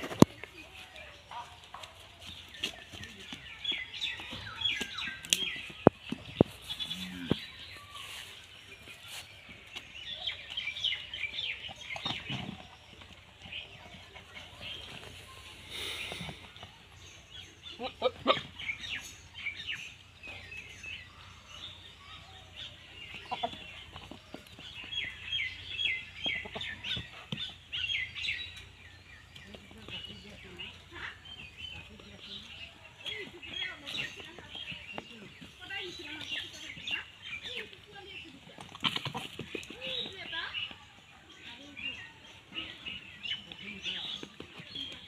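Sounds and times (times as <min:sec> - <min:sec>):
bird chirps: 0:00.0 - 0:38.4.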